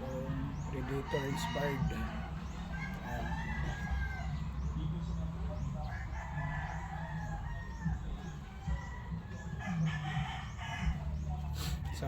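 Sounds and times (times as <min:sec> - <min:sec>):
rooster crowing: 0:00.0 - 0:04.6, 0:05.9 - 0:11.1.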